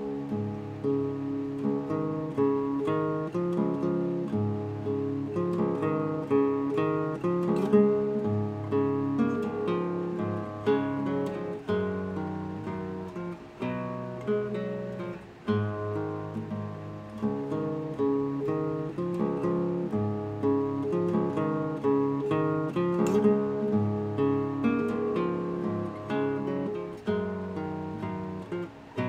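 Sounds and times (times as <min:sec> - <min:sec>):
fingerpicked classical guitar: 0:00.0 - 0:29.0.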